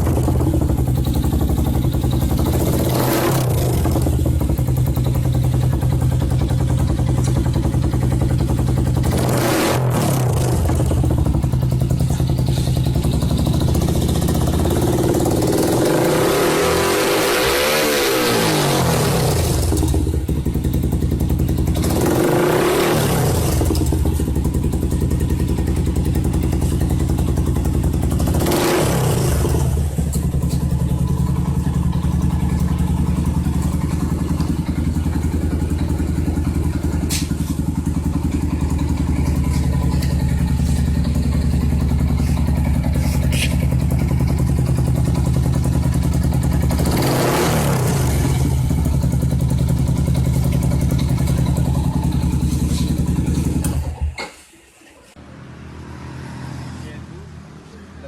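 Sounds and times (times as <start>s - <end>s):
motorcycle engine idling: 0.0s - 16.2s, 19.3s - 54.4s
motorcycle engine revving: 0.0s - 54.4s.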